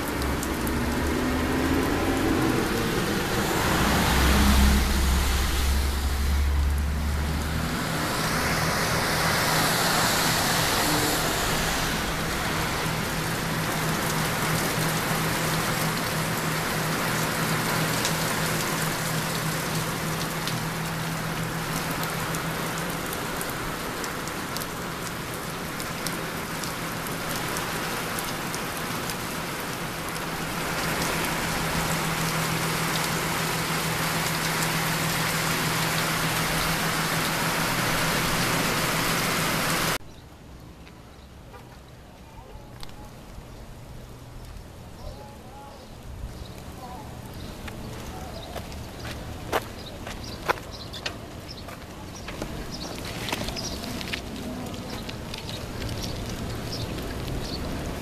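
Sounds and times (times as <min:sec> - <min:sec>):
vehicle passing on wet road: 0:00.0 - 0:40.9, 0:42.7 - 0:58.0
hard rain on pavement: 0:00.0 - 0:58.0
low engine hum: 0:00.0 - 0:58.0.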